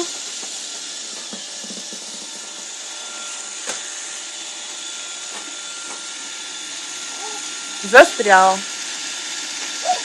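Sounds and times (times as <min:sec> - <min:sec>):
robot vacuum cleaner running: 0:00.0 - 0:10.0.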